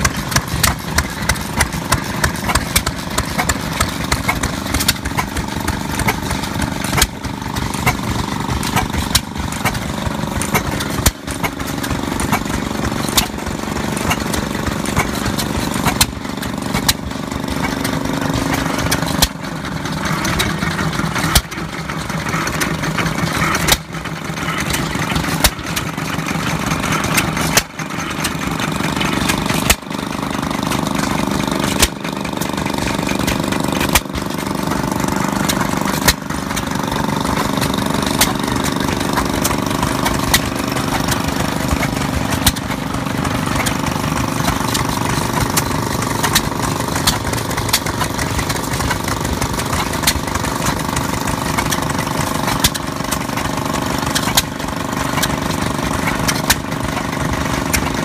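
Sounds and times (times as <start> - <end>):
engine chugging: 0.0 - 58.0.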